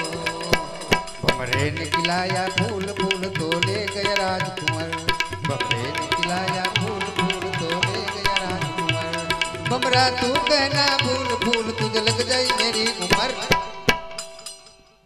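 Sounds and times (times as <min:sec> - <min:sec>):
tabla playing quick rhythm: 0:00.0 - 0:14.9
harmonium and banjo melody: 0:00.0 - 0:15.0.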